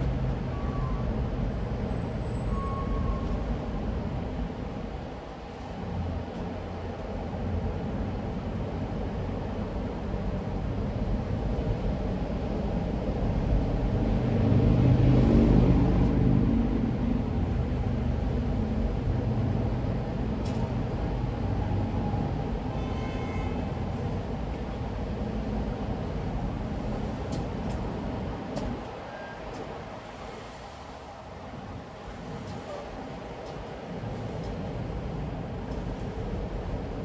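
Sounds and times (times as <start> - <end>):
car road noise at highway speed: 0.0 - 37.0.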